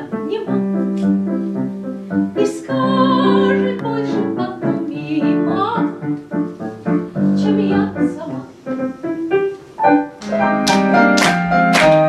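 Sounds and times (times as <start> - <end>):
piano accompaniment: 0.0 - 12.0.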